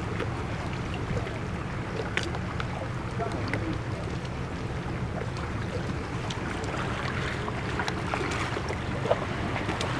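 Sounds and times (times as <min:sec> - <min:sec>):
wind: 0:00.0 - 0:09.9.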